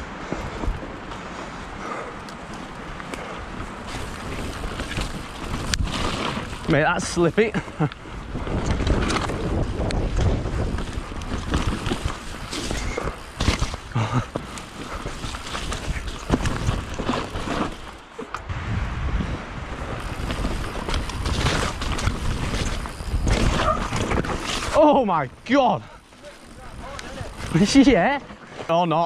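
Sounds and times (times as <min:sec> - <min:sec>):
tyres rolling on dirt: 0:00.0 - 0:29.0
bike clattering over bumps: 0:00.2 - 0:18.4, 0:19.7 - 0:29.0
wind buffeting microphone: 0:02.6 - 0:17.4, 0:18.4 - 0:28.1.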